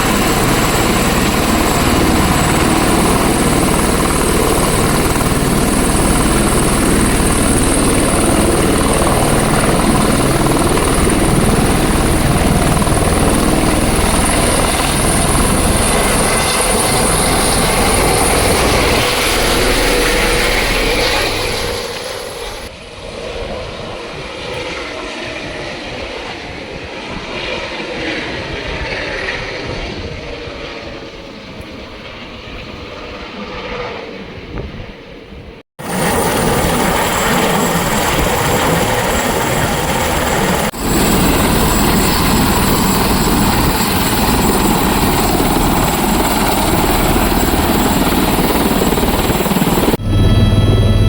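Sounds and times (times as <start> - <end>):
helicopter turbine and rotor noise: 0.0 - 51.0.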